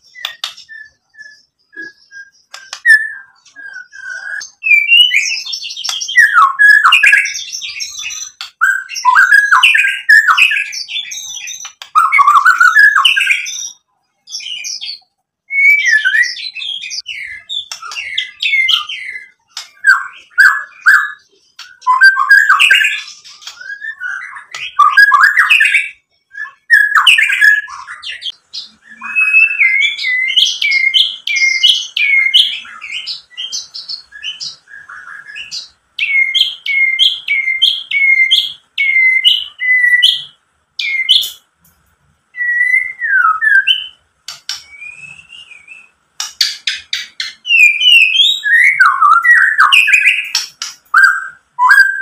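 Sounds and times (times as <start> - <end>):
songbird singing whistles and trills: 0.0 - 41.6, 42.3 - 52.0.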